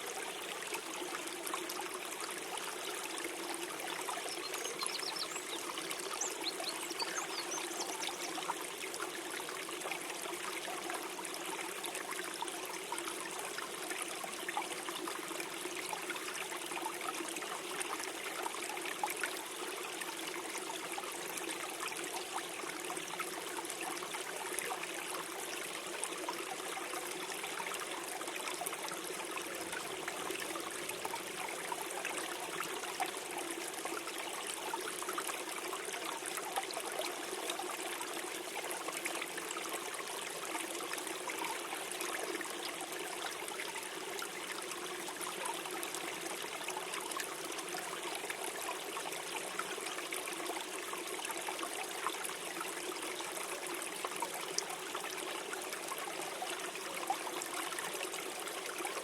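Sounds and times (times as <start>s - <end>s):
stream gurgling over stones: 0.0s - 59.0s.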